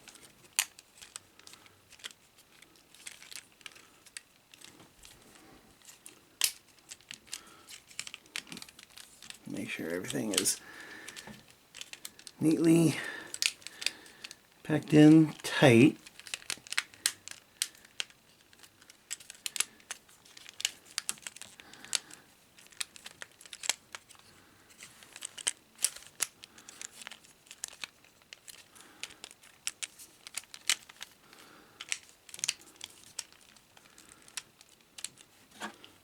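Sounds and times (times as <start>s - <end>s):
plastic toy parts clicking and snapping: 0.0s - 5.2s, 5.8s - 9.4s, 10.0s - 12.4s, 13.3s - 14.4s, 16.0s - 36.0s.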